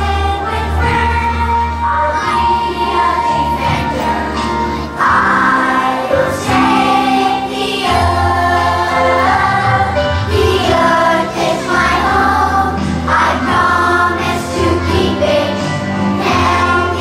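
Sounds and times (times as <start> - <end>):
children singing: 0.0 - 17.0
instrumental backing music: 0.0 - 17.0.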